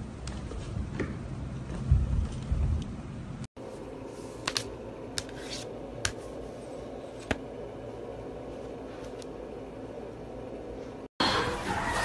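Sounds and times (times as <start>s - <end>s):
low room hum: 0.0s - 11.7s.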